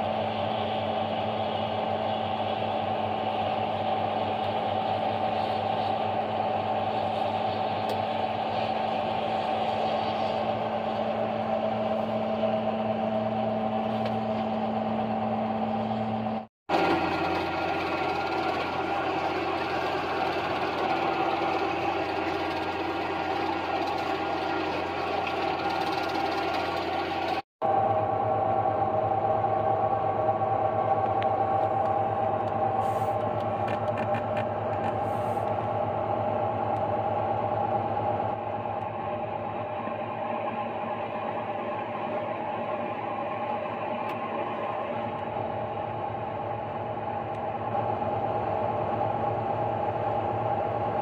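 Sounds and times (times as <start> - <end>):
farm machinery droning: 0.0 - 51.0
tractor diesel engines running: 0.0 - 51.0.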